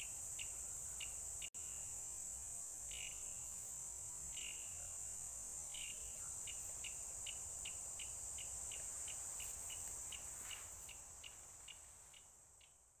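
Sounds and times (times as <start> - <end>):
high-pitched insect drone: 0.0 - 11.4
insect chirps: 0.0 - 13.0.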